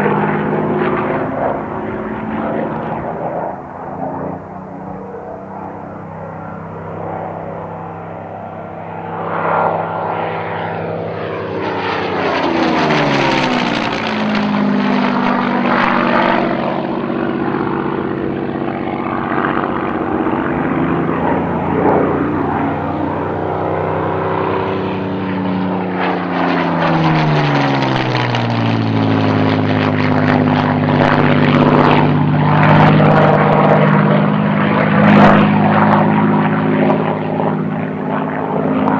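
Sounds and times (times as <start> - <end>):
propeller aircraft passing overhead: 0.0 - 38.9.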